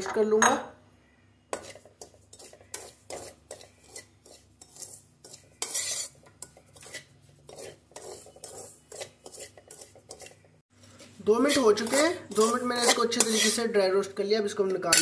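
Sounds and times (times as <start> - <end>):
metal spoon scraping metal pan: 1.5 - 15.0.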